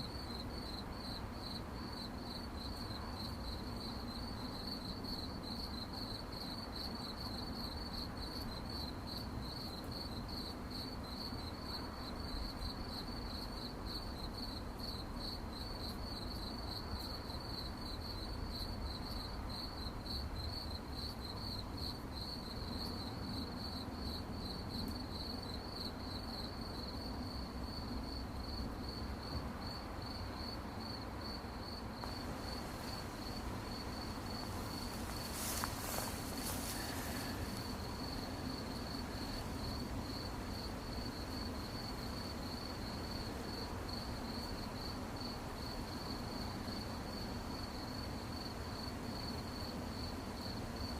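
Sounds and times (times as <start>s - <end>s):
crickets chirping: 0.0s - 50.9s
faint low background hiss: 0.0s - 50.9s.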